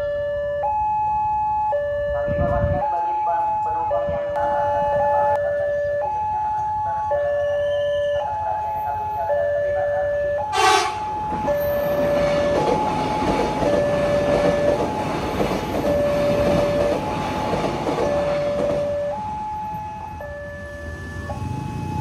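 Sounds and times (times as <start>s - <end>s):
level-crossing alarm high and low tone: 0.0s - 22.0s
electric train rumbling and rattling: 2.0s - 22.0s.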